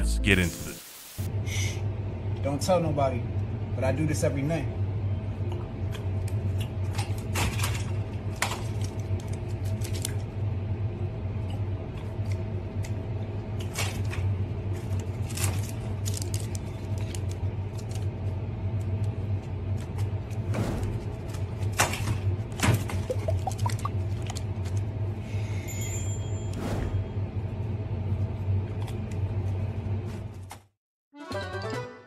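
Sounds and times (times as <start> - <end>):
steady low hum: 0.0 - 30.5.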